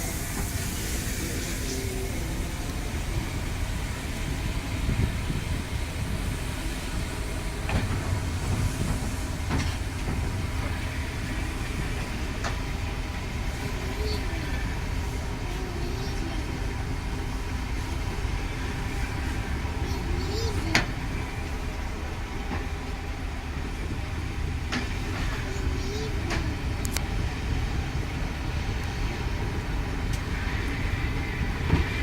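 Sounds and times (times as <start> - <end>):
diesel locomotive humming: 0.0 - 32.0.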